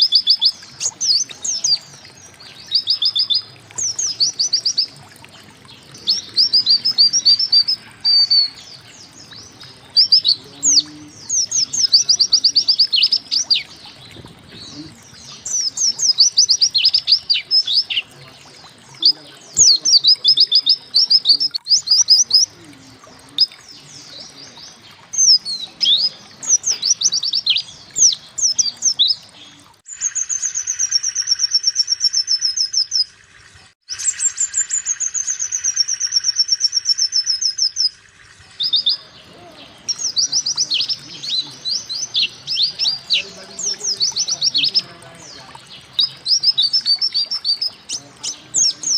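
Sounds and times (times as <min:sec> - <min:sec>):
bird chirping: 0:00.0 - 0:33.2, 0:33.9 - 0:48.9.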